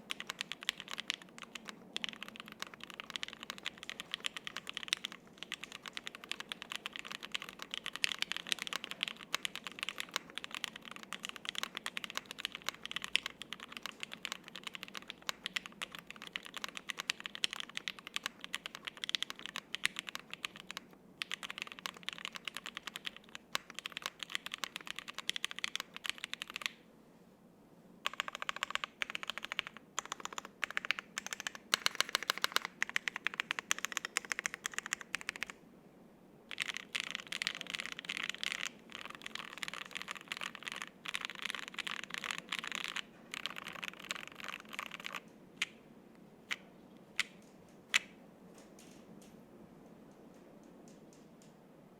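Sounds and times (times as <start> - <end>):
fast typing on mechanical keyboard: 0.0 - 26.8, 28.0 - 35.6, 36.5 - 45.8.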